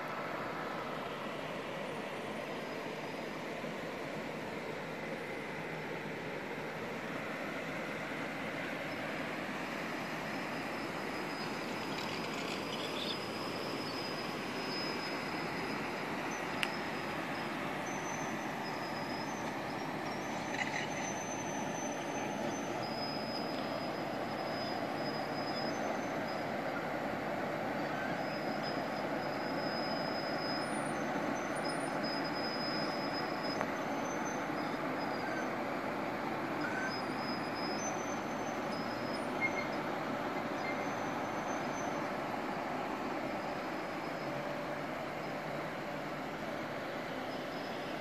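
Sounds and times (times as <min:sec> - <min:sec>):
faint high whine: 0:00.0 - 0:48.0
stream water flowing: 0:00.0 - 0:48.0.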